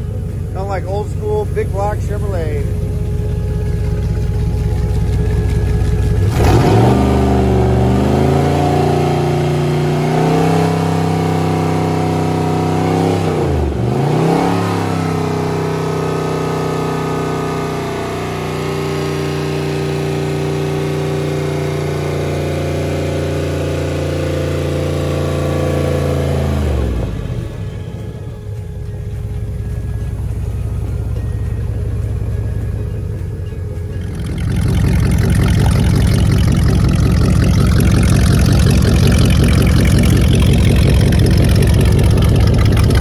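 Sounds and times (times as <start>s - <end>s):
boat engine running: 0.0s - 43.0s.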